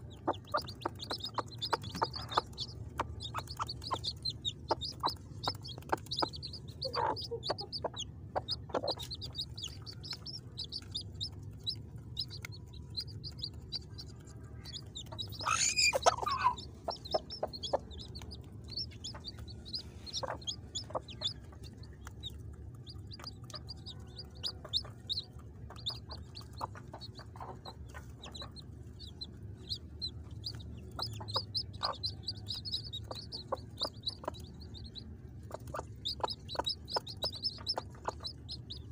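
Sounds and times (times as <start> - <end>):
chicks peeping: 0.0 - 38.9
hen clucking: 0.0 - 38.9.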